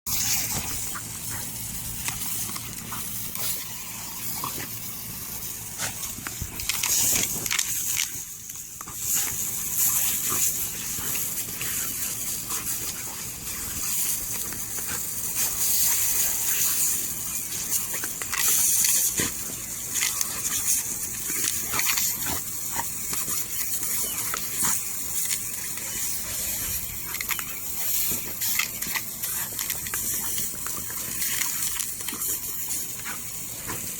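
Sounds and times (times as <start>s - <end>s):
sprinkler clicks and spatters: 0.1s - 33.9s
sprinkler spraying water: 0.1s - 33.9s.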